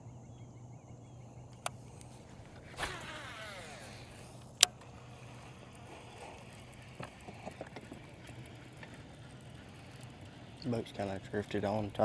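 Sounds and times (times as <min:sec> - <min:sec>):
fishing reel clicking: 0:01.6 - 0:12.0
fishing reel whirring: 0:01.6 - 0:12.0.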